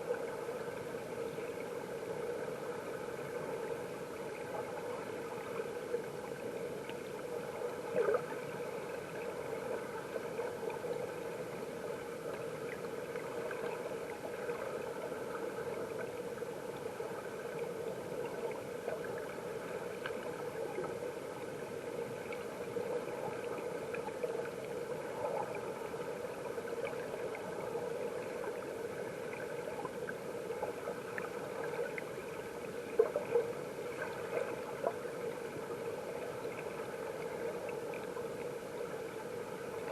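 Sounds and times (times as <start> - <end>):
stream water heard underwater: 0.0 - 39.9.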